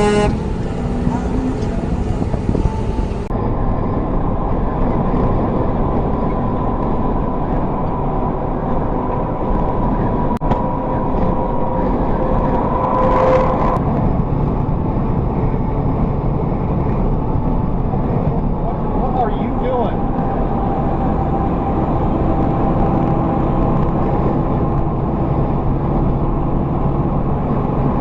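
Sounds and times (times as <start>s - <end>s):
vehicle road and engine rumble: 0.0s - 28.0s.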